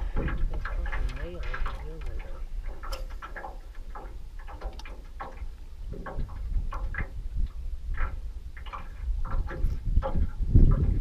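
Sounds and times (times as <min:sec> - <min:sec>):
waves slapping metal boat hull: 0:00.0 - 0:11.0
wind rumble on microphone: 0:00.0 - 0:11.0.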